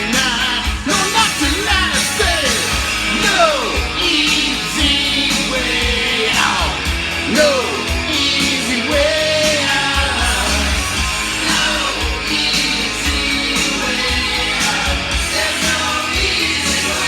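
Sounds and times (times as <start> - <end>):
rock song with male vocal: 0.0 - 17.0.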